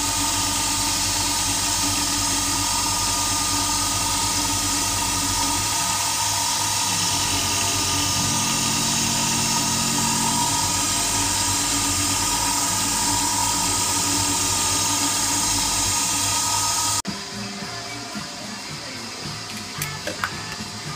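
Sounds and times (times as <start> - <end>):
milling machine whining: 0.0 - 20.9.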